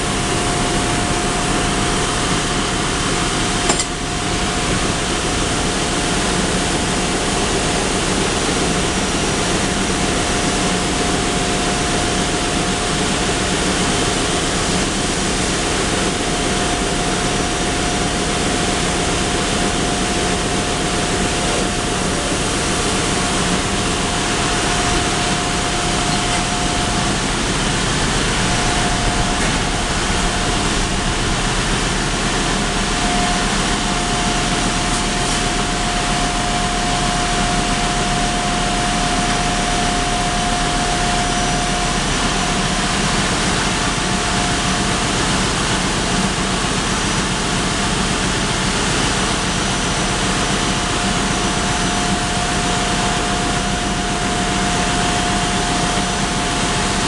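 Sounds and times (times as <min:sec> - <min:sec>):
constant high whine: 0:00.0 - 0:57.0
engine-room machinery drone: 0:00.0 - 0:57.0.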